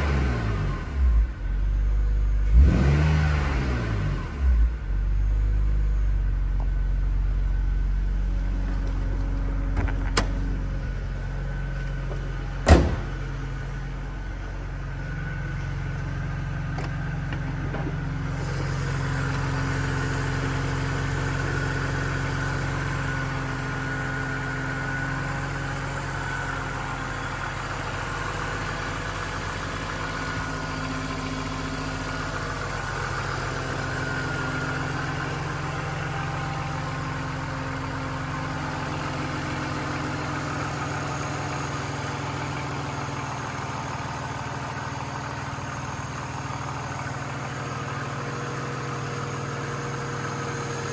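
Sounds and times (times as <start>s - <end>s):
car engine idling: 4.0s - 50.9s.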